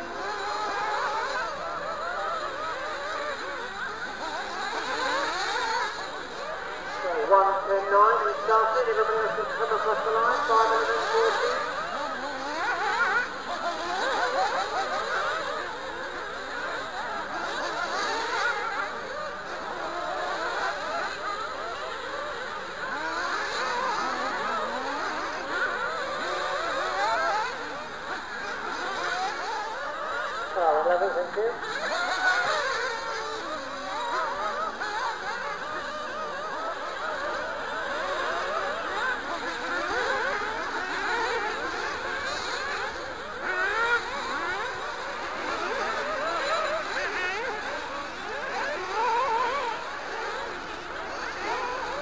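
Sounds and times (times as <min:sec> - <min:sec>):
small engines buzzing and revving: 0:00.0 - 0:52.0.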